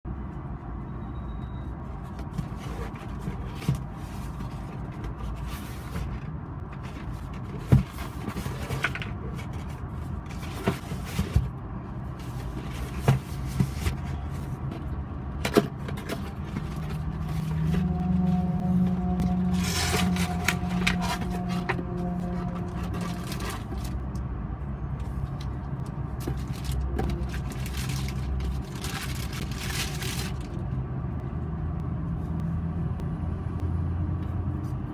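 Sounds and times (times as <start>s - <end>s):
vehicle humming: 0.1s - 34.9s.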